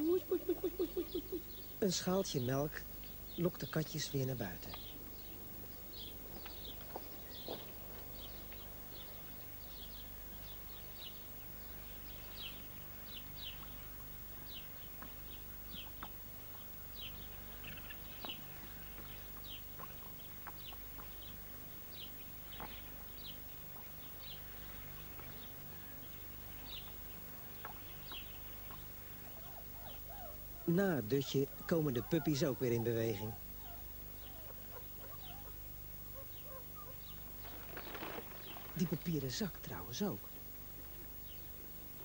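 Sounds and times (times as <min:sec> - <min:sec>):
low steady hum: 0:00.0 - 0:42.0
small birds chirping: 0:00.0 - 0:42.0.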